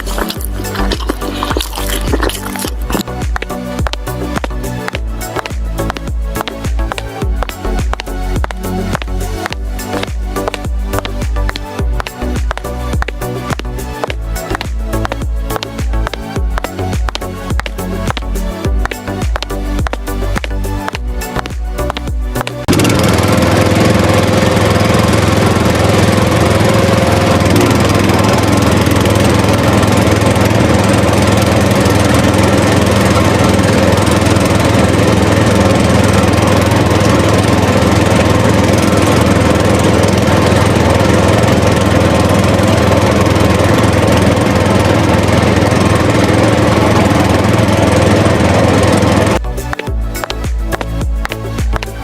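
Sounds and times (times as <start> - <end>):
motor droning hum: 0.0 - 52.0.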